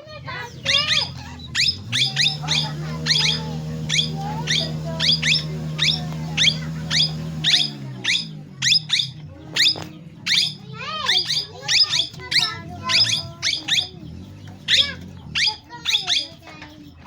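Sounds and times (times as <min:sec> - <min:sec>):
parrot high-pitched calls: 0:00.4 - 0:14.0, 0:14.6 - 0:16.5
parrot gliding notes: 0:00.5 - 0:16.4.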